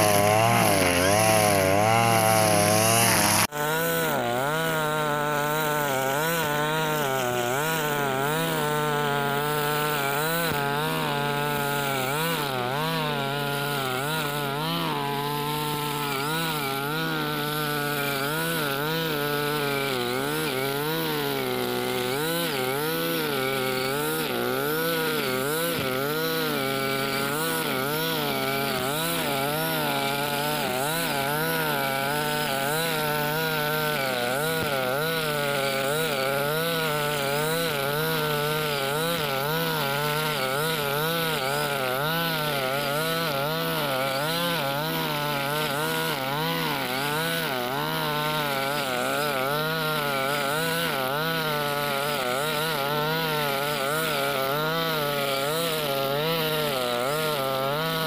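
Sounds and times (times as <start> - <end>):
brush cutter cutting grass: 0.0 - 58.0.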